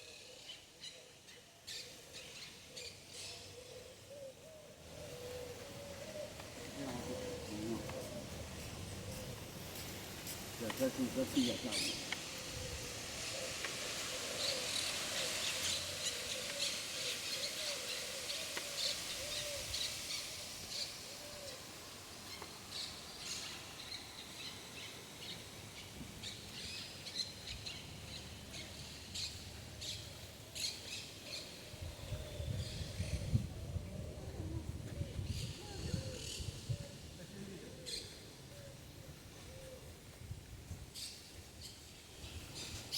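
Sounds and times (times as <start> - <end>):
birds chirping: 0.2 - 40.1.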